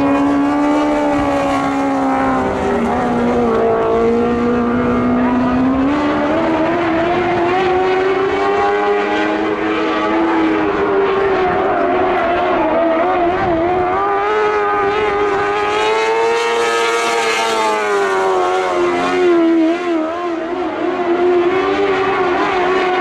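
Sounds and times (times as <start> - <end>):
race car engine at high revs: 0.0 - 23.0.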